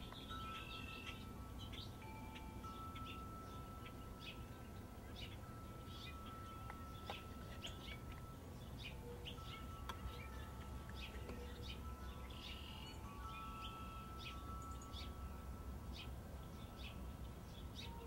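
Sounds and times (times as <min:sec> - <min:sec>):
faint steady hum: 0:00.0 - 0:18.0
small birds chirping: 0:00.0 - 0:18.0.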